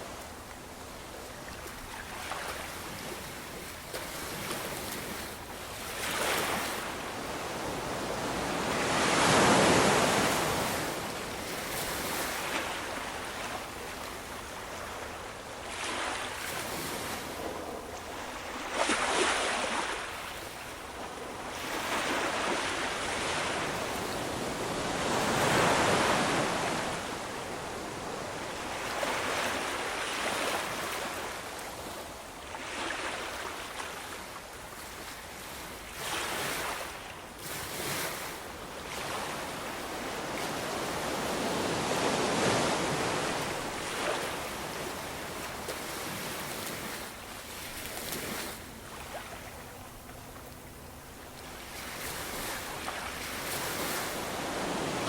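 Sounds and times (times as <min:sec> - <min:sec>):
ocean waves washing ashore: 0:00.0 - 0:55.0.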